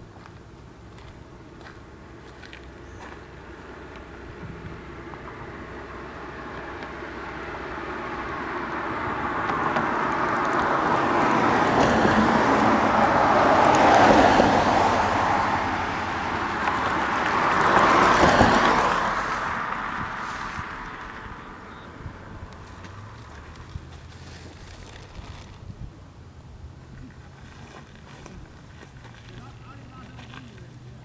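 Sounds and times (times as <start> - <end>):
vehicles driving past: 0.0 - 31.0.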